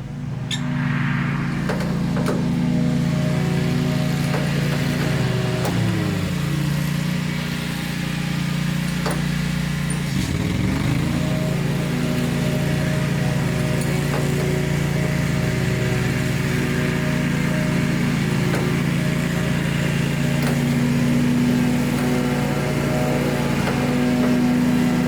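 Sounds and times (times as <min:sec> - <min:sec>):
mechanical motor hum: 0:00.0 - 0:25.0.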